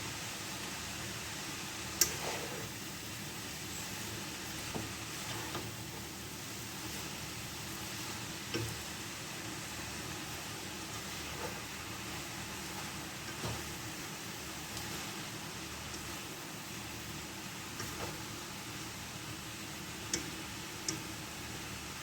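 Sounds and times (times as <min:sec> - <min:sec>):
vegetables sizzling in a hot pan: 0:00.0 - 0:22.0.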